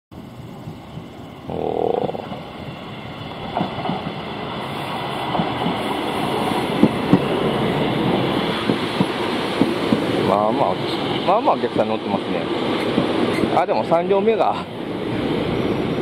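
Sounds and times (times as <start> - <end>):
electric train running noise: 2.2 - 16.0.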